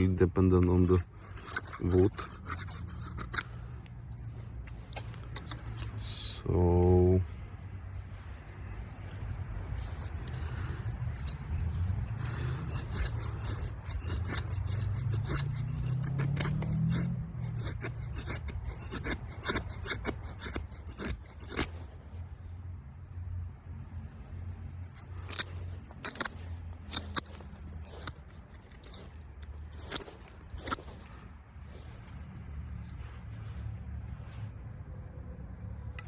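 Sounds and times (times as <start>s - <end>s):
sharp knife cutting strokes: 0.0s - 22.5s, 23.1s - 34.5s
knife scraping wood: 0.0s - 34.6s.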